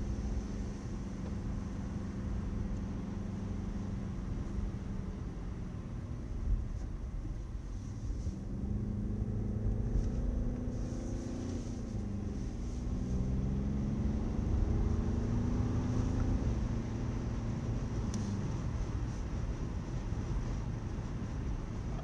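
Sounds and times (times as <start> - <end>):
car engine: 0.0 - 22.0.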